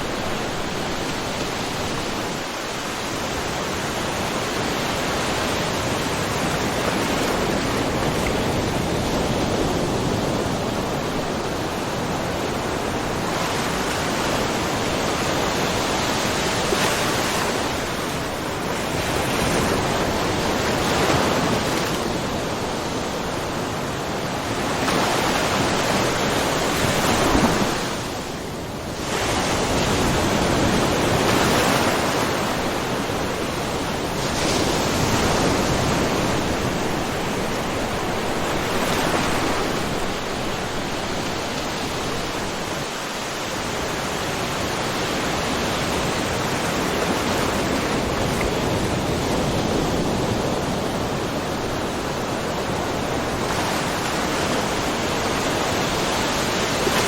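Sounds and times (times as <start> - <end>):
waves lapping on rocky shore: 0.0 - 57.0.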